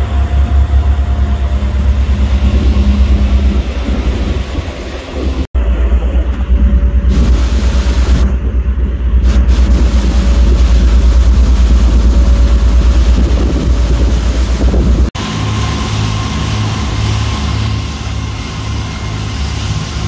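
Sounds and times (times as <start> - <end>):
motorboat engine throbbing: 0.0 - 20.0
wind and water hiss: 0.0 - 20.0.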